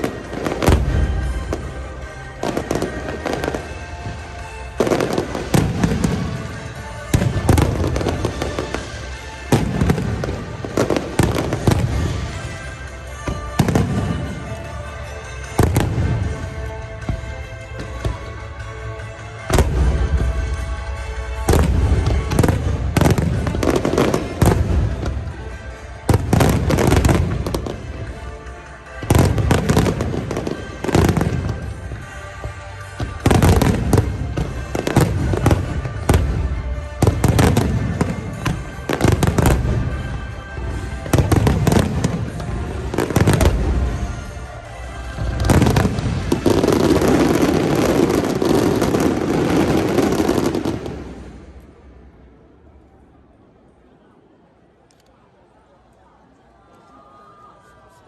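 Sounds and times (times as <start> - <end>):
firework crackle: 0.0 - 18.1, 19.0 - 51.7
music: 0.0 - 58.0.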